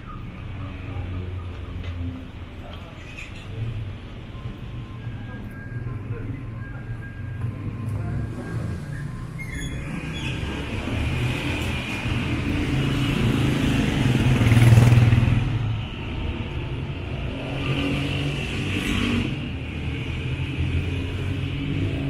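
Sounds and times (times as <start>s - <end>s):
vehicle engines running: 0.0s - 22.0s.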